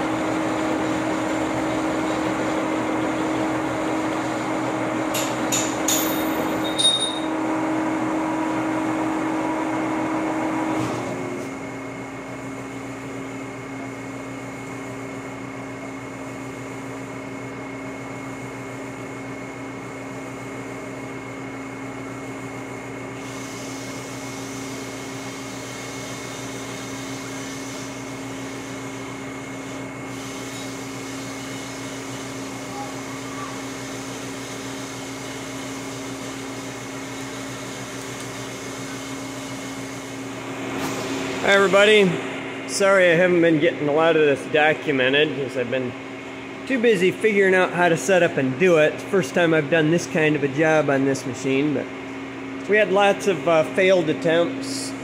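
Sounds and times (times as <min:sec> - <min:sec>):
boring machine humming: 0:00.0 - 0:55.0.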